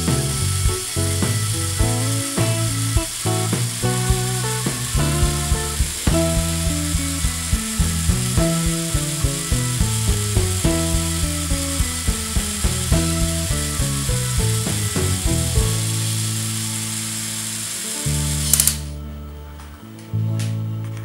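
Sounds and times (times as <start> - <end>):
background music: 0.0 - 21.0
toy motor whirring and clicking: 0.4 - 10.2, 10.9 - 14.9, 15.6 - 18.9.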